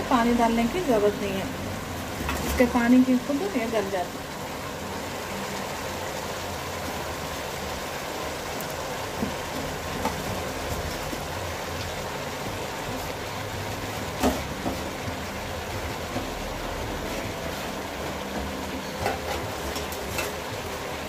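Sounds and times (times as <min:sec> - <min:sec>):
spinach sizzling in a pot: 0:00.0 - 0:21.0.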